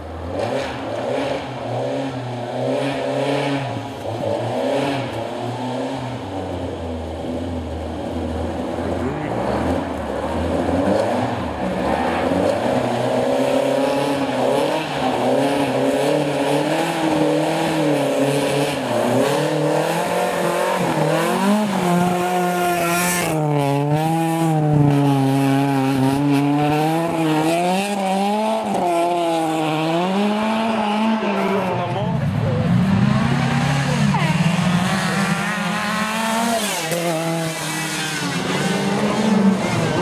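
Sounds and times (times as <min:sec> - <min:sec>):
rally car engine revving: 0:00.0 - 0:40.0.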